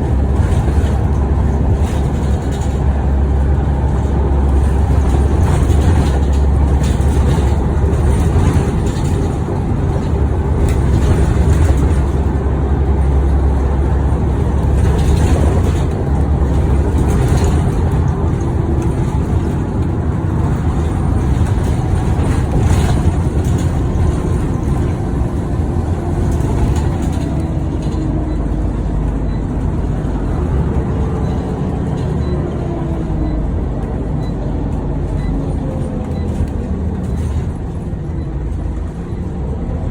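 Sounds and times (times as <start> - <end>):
bus engine drone: 0.0 - 39.9
drivetrain whine: 0.0 - 39.9
road and body noise: 0.0 - 39.9.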